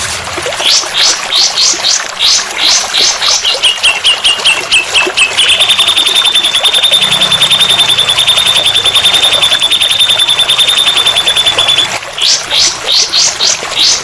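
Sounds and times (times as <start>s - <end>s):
songbird trilling: 0.7s - 14.0s.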